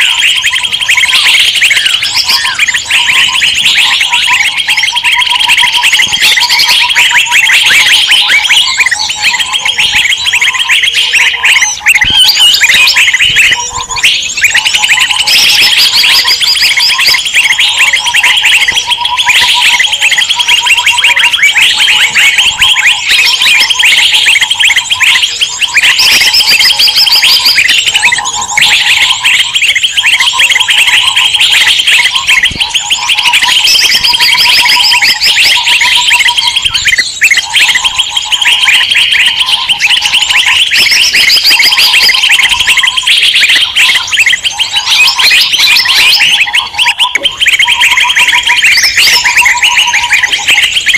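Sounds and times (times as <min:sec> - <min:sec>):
songbirds chattering: 0:00.0 - 0:50.9
whistled bird phrases: 0:00.0 - 0:50.9.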